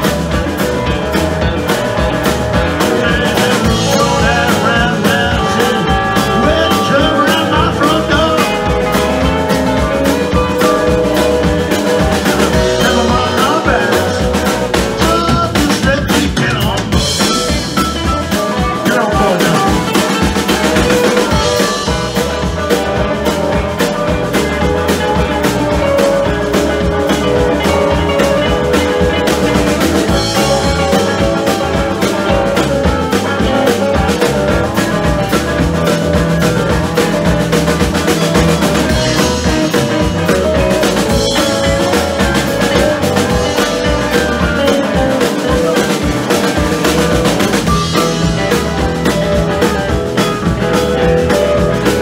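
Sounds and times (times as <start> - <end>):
drum kit: 0.0 - 52.0
electric guitars: 0.0 - 52.0
keyboard: 0.0 - 52.0.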